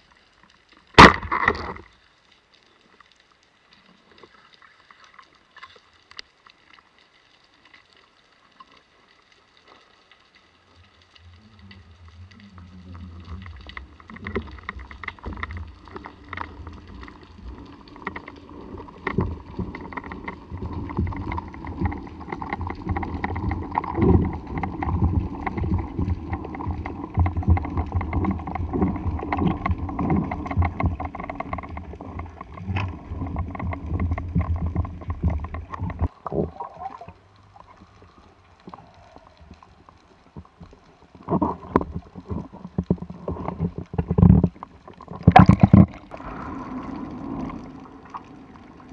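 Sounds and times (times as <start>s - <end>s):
low rumble of moving water: 0.0s - 48.9s.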